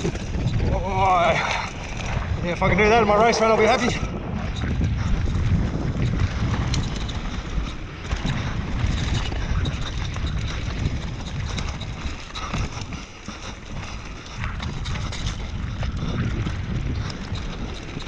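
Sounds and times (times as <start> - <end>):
bike rattling over bumps: 0.0 - 18.0
bike tyres rumbling: 0.0 - 18.0
wind buffeting microphone: 0.0 - 18.0.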